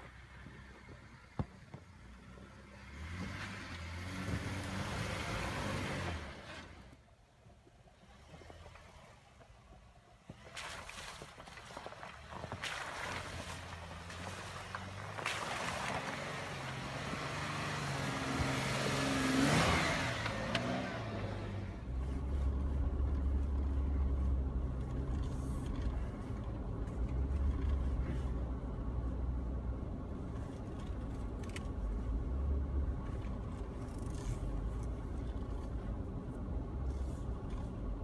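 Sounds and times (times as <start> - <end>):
off-road vehicle engine: 0.0 - 38.0.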